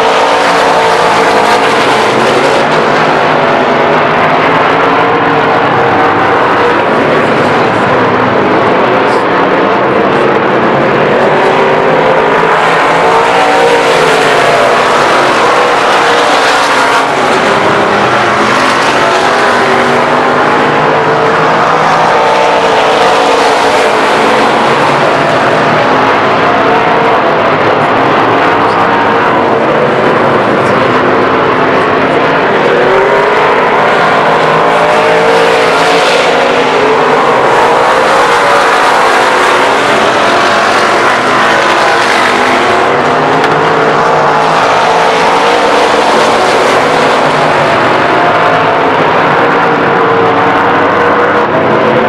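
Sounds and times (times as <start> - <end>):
race car engines: 0.0 - 52.0.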